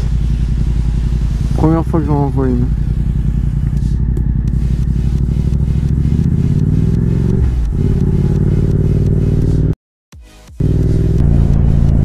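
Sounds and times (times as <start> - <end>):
motorcycle engine running: 0.0 - 9.8, 10.6 - 12.0.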